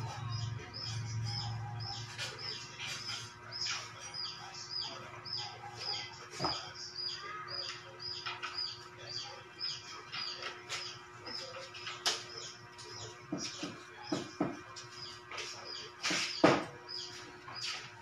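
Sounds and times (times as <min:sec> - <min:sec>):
small bird chirping rhythmically: 0:00.0 - 0:18.0.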